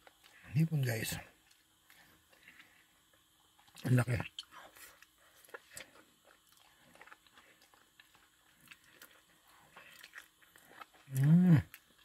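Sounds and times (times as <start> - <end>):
person chewing food: 0.0 - 0.5, 1.3 - 12.0.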